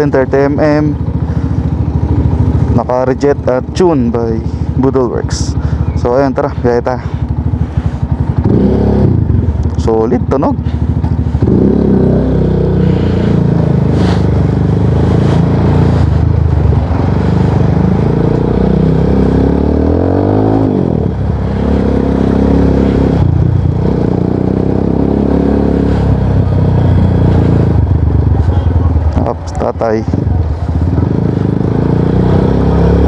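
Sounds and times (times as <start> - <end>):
motorcycle exhaust while riding: 0.0 - 33.0.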